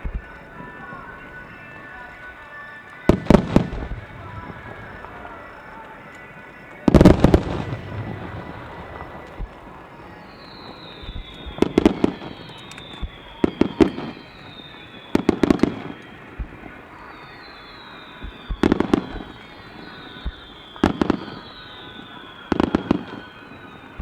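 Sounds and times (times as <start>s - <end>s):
fireworks bursting: 0.0s - 24.0s
music: 0.0s - 24.0s.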